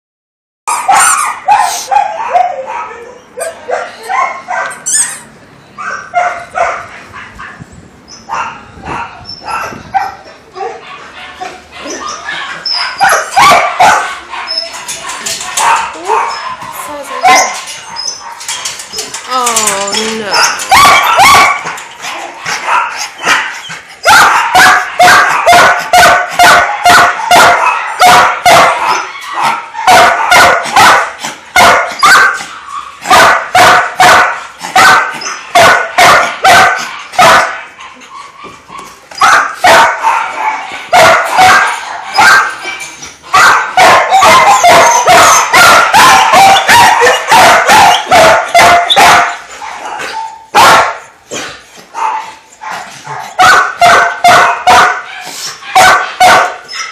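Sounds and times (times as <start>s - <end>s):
many dogs barking: 0.7s - 4.8s, 5.8s - 7.6s, 8.3s - 18.8s, 20.3s - 56.9s.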